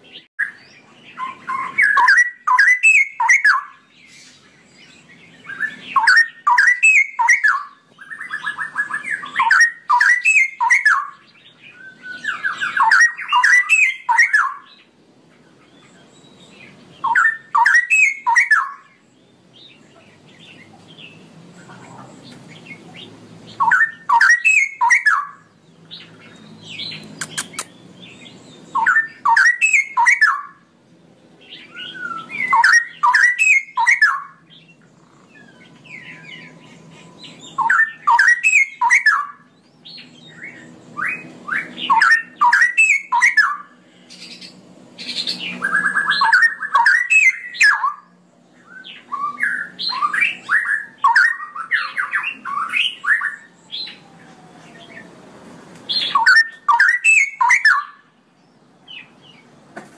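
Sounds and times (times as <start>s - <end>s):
bird singing fluty song: 0.0s - 59.6s.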